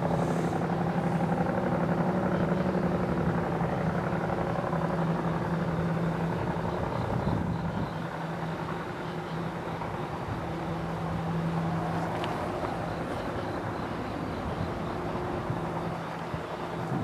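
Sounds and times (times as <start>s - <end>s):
distant diesel locomotive engines: 0.0s - 17.0s.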